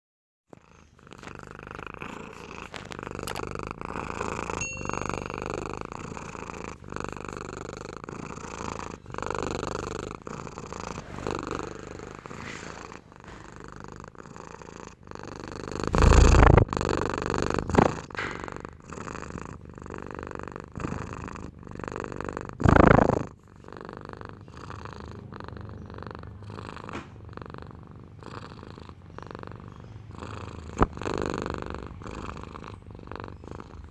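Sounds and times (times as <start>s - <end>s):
cat purring: 0.5s - 33.9s.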